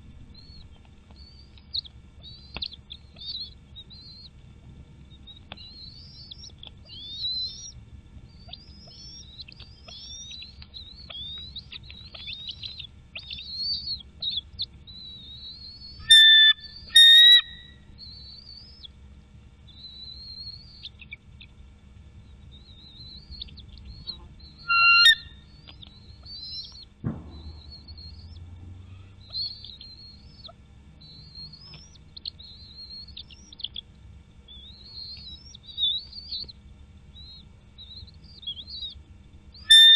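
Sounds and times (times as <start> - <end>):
birds chirping: 0.0 - 39.9
loud whistled bird calls: 0.3 - 4.4, 5.2 - 19.0, 19.7 - 21.2, 22.2 - 39.9.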